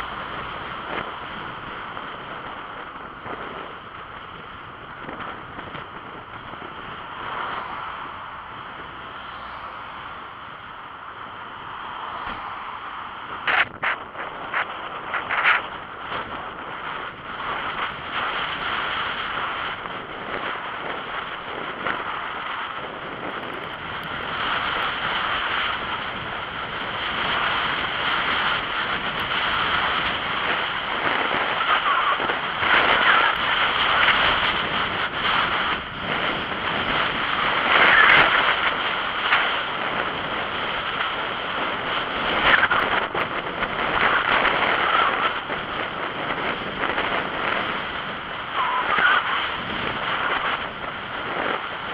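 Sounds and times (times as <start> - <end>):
bike tyre noise on tarmac: 0.0 - 51.9
wind rushing over microphone: 0.0 - 51.9.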